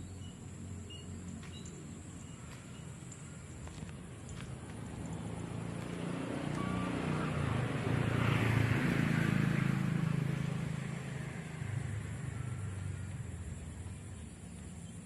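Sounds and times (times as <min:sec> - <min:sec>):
vehicle engine passing by: 0:00.2 - 0:15.0.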